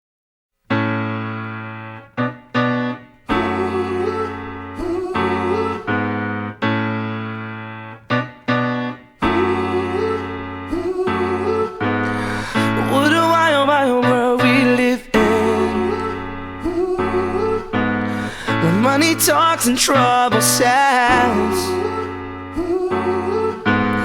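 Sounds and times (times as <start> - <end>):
piano chords and melody: 0.7 - 24.0.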